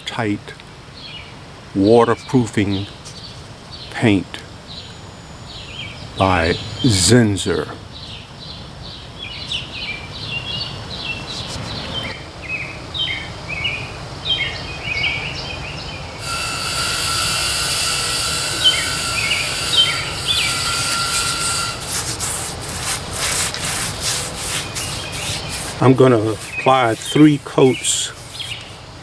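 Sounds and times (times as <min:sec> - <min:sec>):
birds chirping: 0:01.0 - 0:29.0
high whine with hiss: 0:01.5 - 0:08.8, 0:11.2 - 0:29.0.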